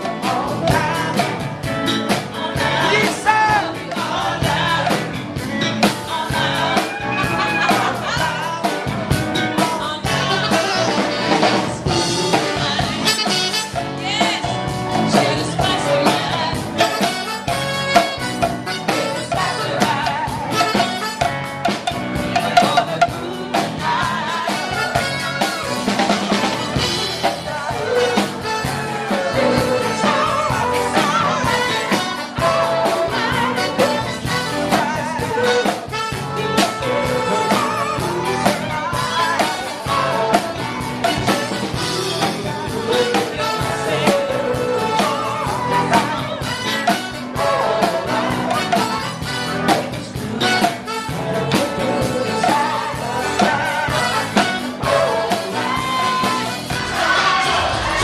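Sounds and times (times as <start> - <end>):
live band playing: 0.0 - 58.0
person singing: 0.0 - 58.0.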